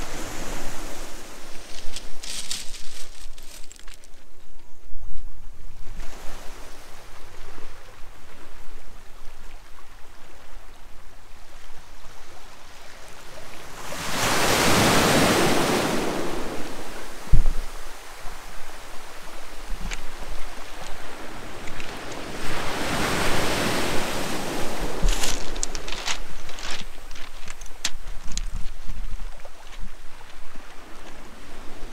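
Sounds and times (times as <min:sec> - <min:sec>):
sea waves breaking on shore: 0:00.0 - 0:03.8, 0:05.8 - 0:31.9
wind rumbling on microphone: 0:00.0 - 0:31.9.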